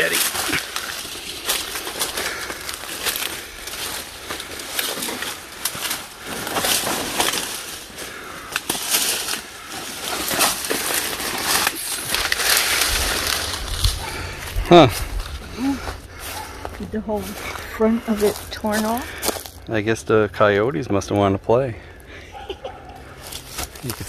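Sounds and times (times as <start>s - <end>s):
leaf litter crackling underfoot: 0.0s - 19.6s, 23.1s - 24.0s
fronds rustling and scraping: 0.0s - 19.7s, 21.8s - 24.0s.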